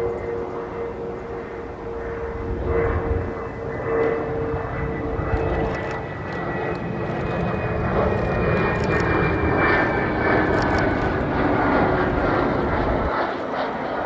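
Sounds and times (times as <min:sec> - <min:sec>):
jet engine running loud: 0:00.0 - 0:14.0.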